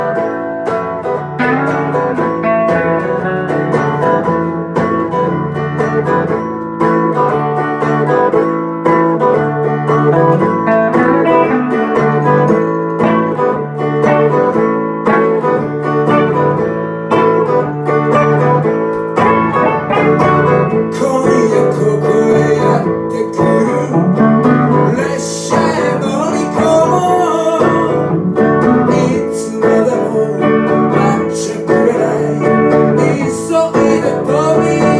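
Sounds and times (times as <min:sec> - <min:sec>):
acoustic guitar music: 0:00.0 - 0:34.9.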